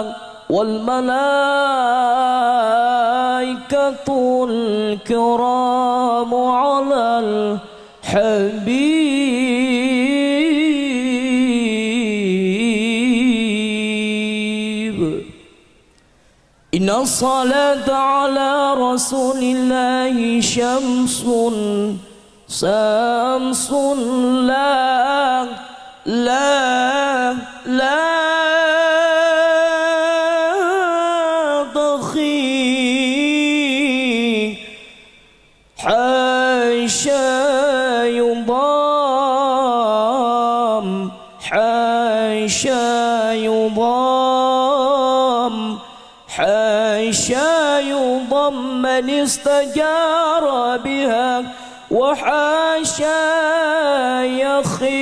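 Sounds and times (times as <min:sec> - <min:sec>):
man singing unaccompanied: 0:00.0 - 0:15.6, 0:16.7 - 0:55.0.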